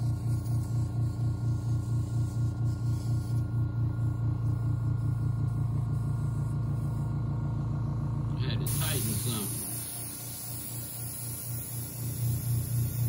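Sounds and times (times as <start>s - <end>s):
compressor pulsing hum: 0.0s - 13.0s.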